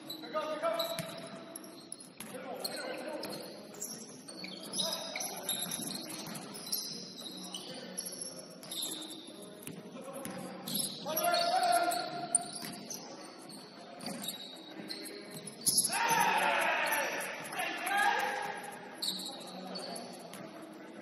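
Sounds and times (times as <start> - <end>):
sneakers squeaking: 0.0 - 20.8
players' voices: 2.2 - 21.0.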